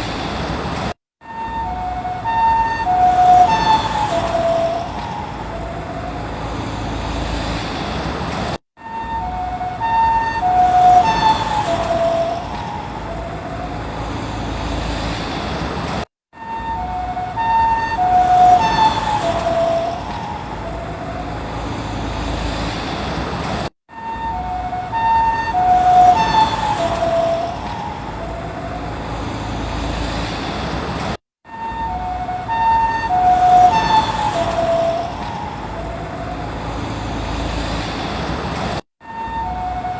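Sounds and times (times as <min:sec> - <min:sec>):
engine and road noise: 0:00.0 - 0:39.9
ambulance two-tone siren passing: 0:01.2 - 0:07.6, 0:08.8 - 0:15.2, 0:16.3 - 0:22.7, 0:23.9 - 0:30.4, 0:31.4 - 0:37.8, 0:39.0 - 0:39.9.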